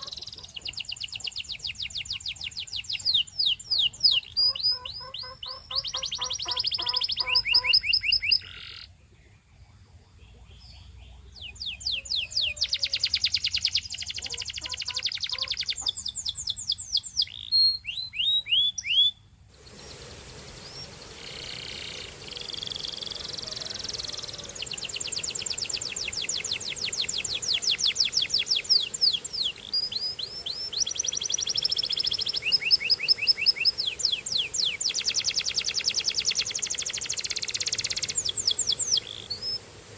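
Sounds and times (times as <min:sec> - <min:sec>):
canary singing trills: 0:00.0 - 0:09.4, 0:10.1 - 0:39.7
steady background hiss: 0:00.0 - 0:39.9.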